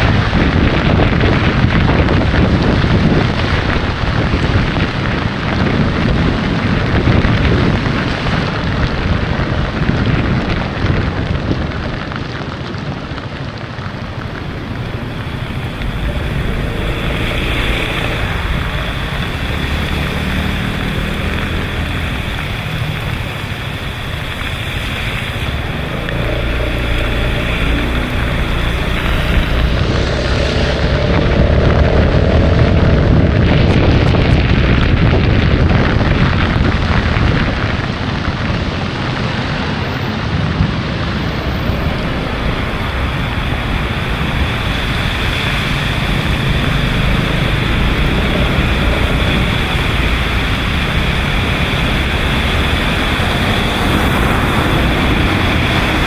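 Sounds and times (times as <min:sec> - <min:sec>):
scooter engine rumble: 0:00.0 - 0:56.0
wind buffeting microphone: 0:00.0 - 0:56.0.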